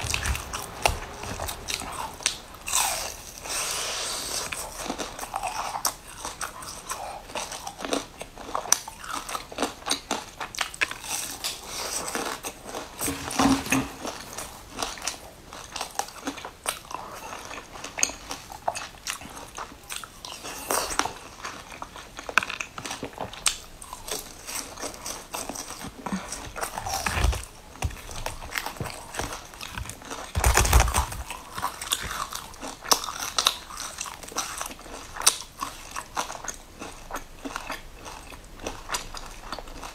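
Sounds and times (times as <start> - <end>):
person crunching crisp pastry: 0.0 - 39.9.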